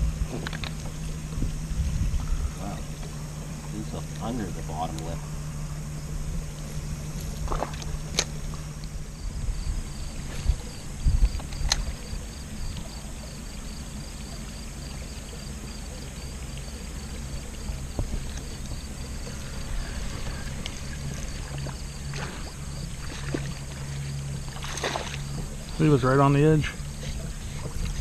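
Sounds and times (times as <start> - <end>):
electric motor humming and whining: 0.0 - 28.0.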